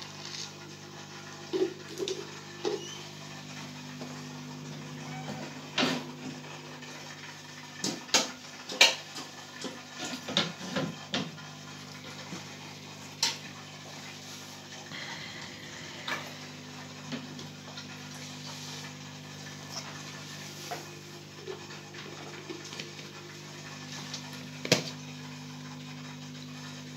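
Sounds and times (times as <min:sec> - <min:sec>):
aquarium pump humming: 0:00.0 - 0:26.9.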